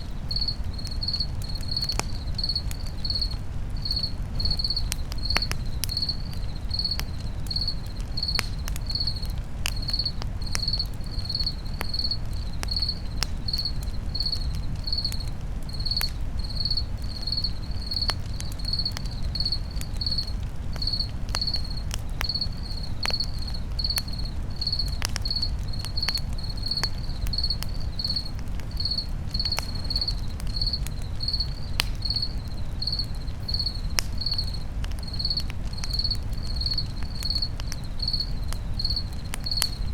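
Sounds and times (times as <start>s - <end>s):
campfire crackling and popping: 0.0s - 39.9s
cricket chirping: 0.0s - 39.9s.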